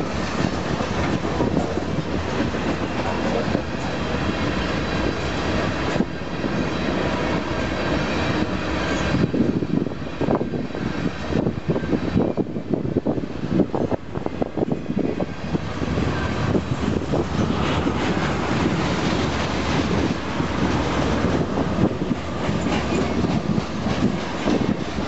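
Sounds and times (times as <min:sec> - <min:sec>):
freight train wheels rumbling on rail: 0:00.0 - 0:25.0
train cars knocking and clattering: 0:00.0 - 0:25.0.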